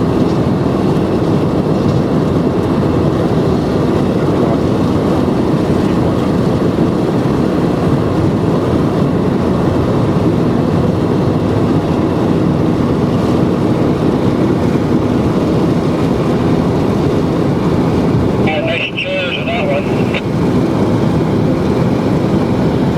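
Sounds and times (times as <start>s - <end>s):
car tyre and wind noise: 0.0s - 18.4s, 20.3s - 22.9s.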